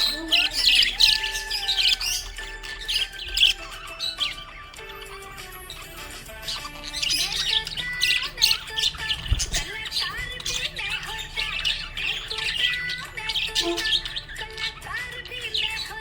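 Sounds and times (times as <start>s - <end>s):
budgerigar chattering: 0.0s - 16.0s.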